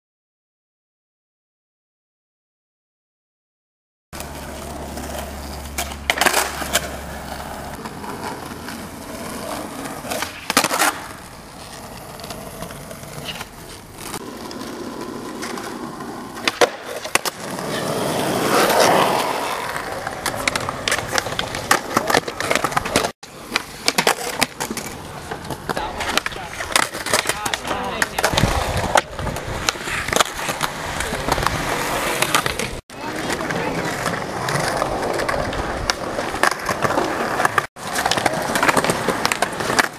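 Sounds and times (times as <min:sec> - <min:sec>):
skateboard tails clacking: 0:04.2 - 0:39.9
skateboard wheels rolling: 0:04.2 - 0:39.9.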